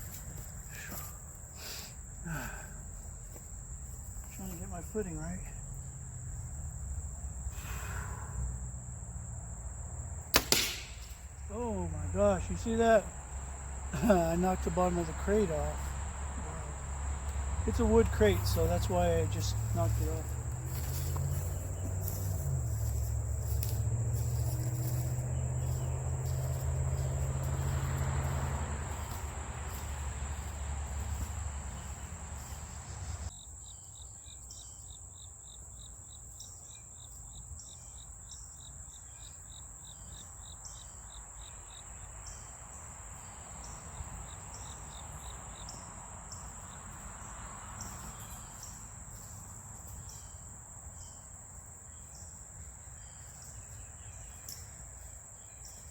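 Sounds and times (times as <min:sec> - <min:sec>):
fast pulsing insect trill: 0:00.0 - 0:55.9
insects trilling: 0:00.0 - 0:55.9.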